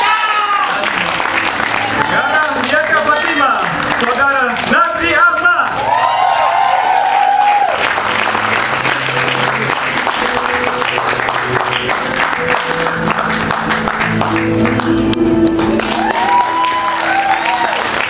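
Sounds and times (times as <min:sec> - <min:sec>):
audience applauding: 0:00.0 - 0:18.0
background music with held notes: 0:00.0 - 0:18.0.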